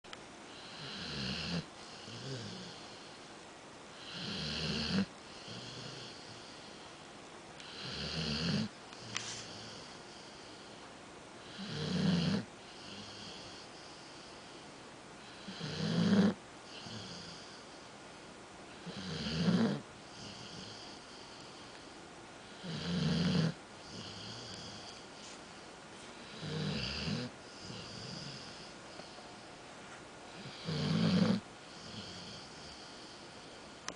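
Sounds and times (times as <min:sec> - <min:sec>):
dog snoring: 0:00.5 - 0:03.2, 0:03.9 - 0:07.0, 0:07.6 - 0:10.8, 0:11.4 - 0:14.6, 0:15.2 - 0:17.8, 0:18.7 - 0:21.7, 0:22.4 - 0:25.4, 0:26.2 - 0:29.4, 0:30.3 - 0:33.6.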